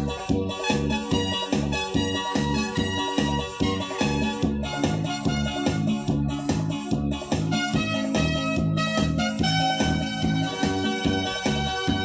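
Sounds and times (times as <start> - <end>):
bass guitar: 0.0 - 12.0.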